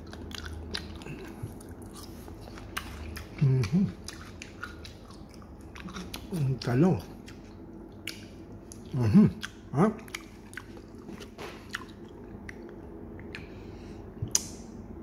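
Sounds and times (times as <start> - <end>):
person chewing: 0.0 - 13.6.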